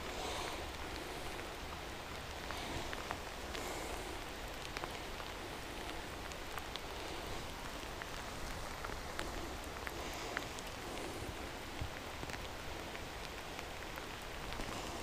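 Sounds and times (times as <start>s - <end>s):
rain falling on lake water: 0.0s - 15.0s.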